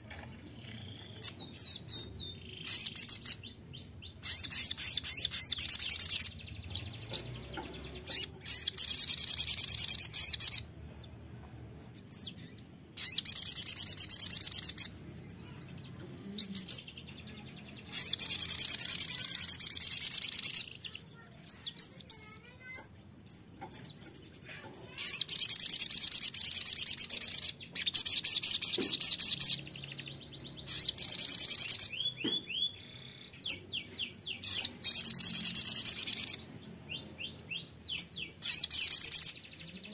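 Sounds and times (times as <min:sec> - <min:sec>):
bird singing trilled phrases: 0:00.0 - 0:39.9
high bird chirps: 0:00.0 - 0:39.9.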